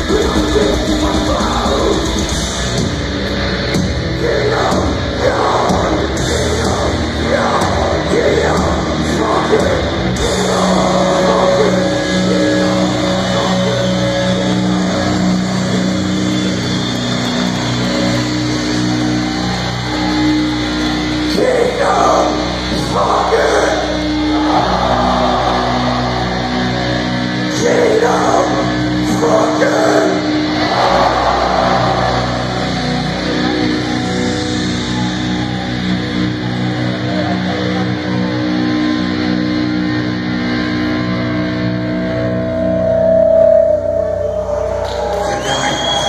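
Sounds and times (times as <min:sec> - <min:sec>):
metal band playing live: 0:00.0 - 0:46.0.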